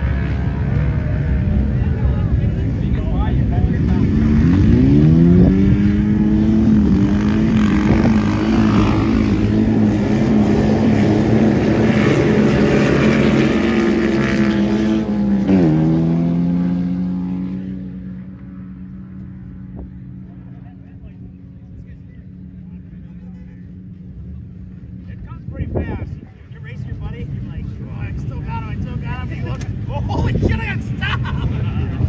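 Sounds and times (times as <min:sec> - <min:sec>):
truck engine accelerating hard: 0:00.0 - 0:32.0.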